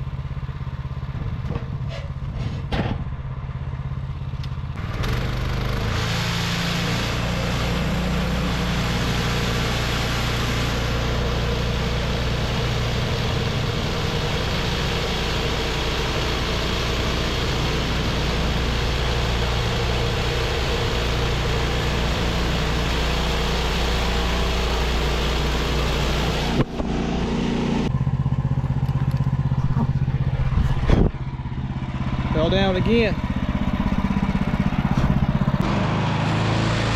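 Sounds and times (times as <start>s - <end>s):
gas engine running: 0.0s - 36.9s.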